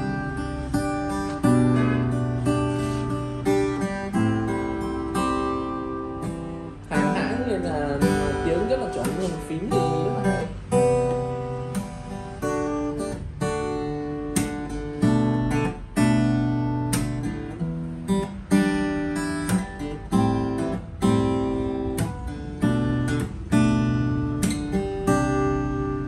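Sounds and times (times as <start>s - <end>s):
acoustic guitar chords strummed: 0.0s - 26.0s.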